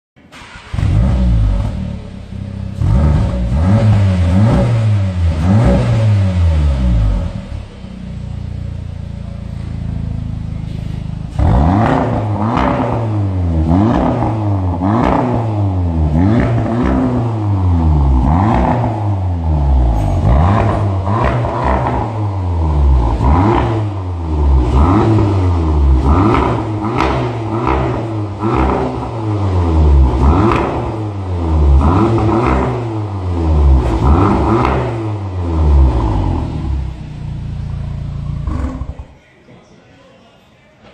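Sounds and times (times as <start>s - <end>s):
car engine revving: 0.3s - 39.2s
exhaust crackles: 0.3s - 39.2s.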